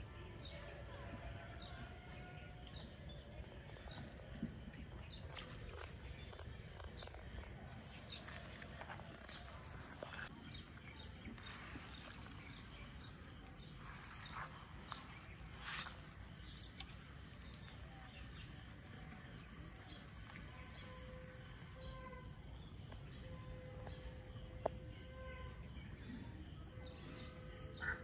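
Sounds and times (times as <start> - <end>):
birds chirping: 2.8 - 28.0.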